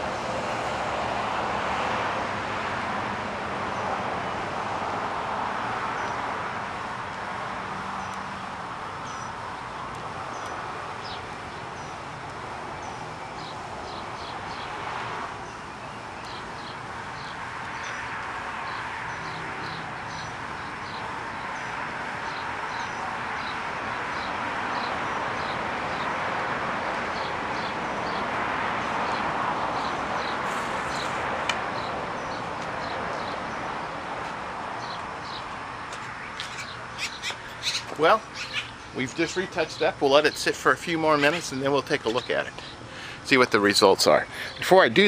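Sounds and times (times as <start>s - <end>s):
steady rushing background noise: 0.0s - 45.0s
small birds chirping: 7.8s - 26.2s, 26.8s - 45.0s.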